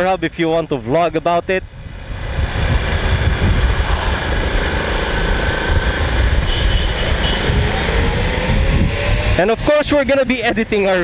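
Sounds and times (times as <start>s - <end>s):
wind noise: 1.0s - 11.0s
motorcycle engine rumble: 1.6s - 11.0s.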